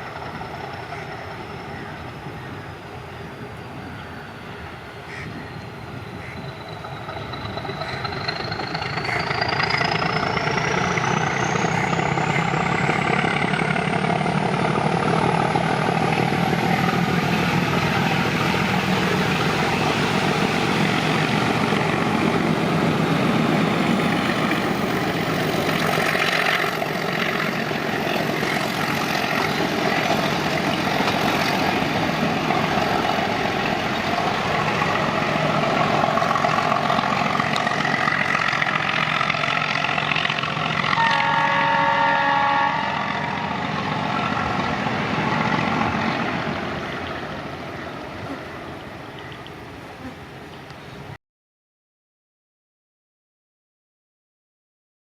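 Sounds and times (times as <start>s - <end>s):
diesel locomotive engine running: 0.0s - 49.8s.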